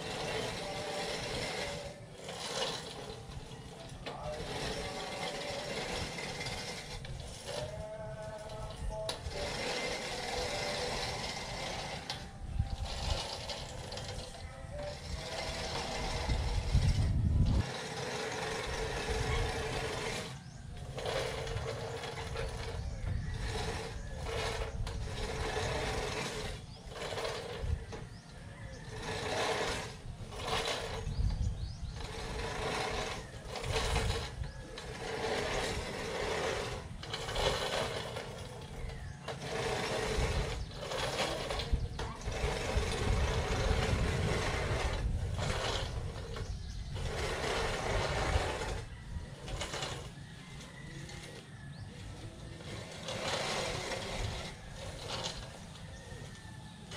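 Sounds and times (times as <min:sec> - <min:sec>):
reel push mower whirring: 0:00.0 - 0:56.9.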